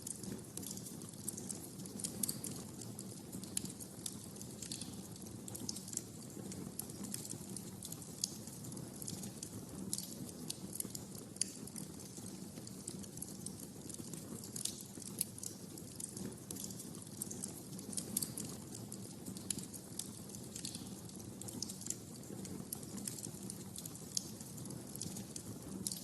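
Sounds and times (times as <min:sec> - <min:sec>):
low rumble of burning: 0:00.0 - 0:26.0
wood fire pops and snaps: 0:00.0 - 0:26.0.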